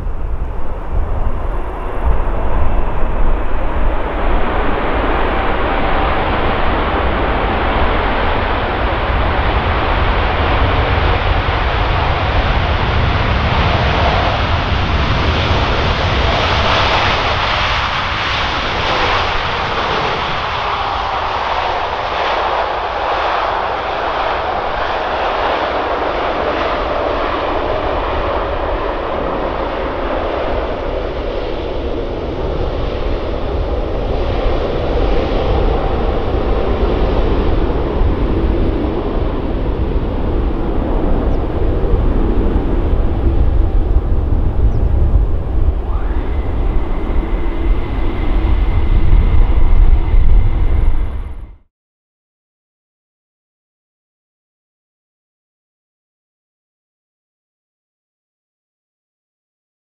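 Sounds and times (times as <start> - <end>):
jet engine whine: 0.0 - 51.7
jet engines reverse thrust roar: 0.0 - 51.7.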